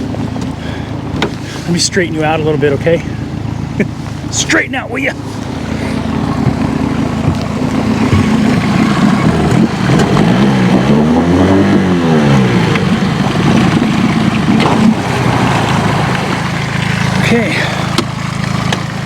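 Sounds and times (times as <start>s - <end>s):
boat motor idling: 0.0s - 19.0s.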